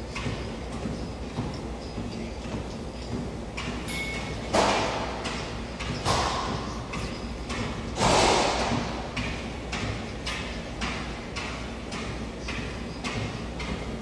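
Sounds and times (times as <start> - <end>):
light rhythmic thuds: 0.0 - 14.0.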